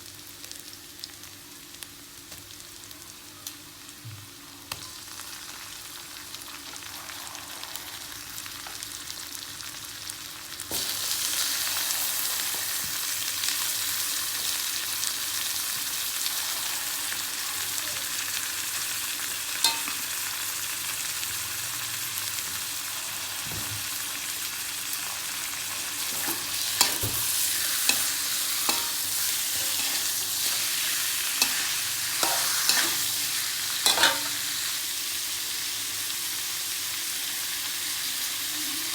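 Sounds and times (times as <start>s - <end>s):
food sizzling in hot oil: 0.0s - 38.9s.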